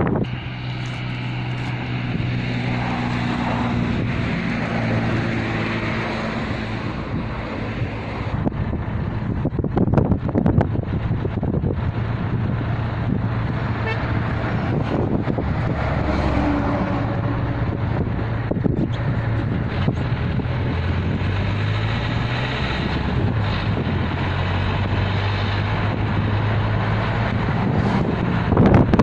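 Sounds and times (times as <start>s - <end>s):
car engine drone: 0.0s - 29.0s
road noise: 0.0s - 29.0s
wind on microphone: 0.0s - 29.0s.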